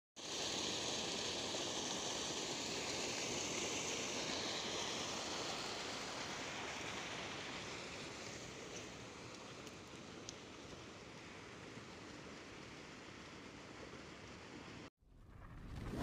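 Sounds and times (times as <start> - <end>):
white water rushing: 0.2 - 13.8.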